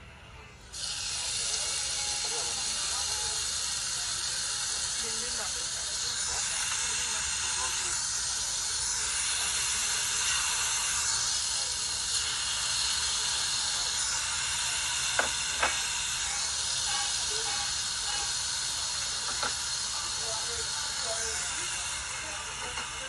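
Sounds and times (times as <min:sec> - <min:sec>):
beef sizzling on a grill: 0:00.7 - 0:23.0.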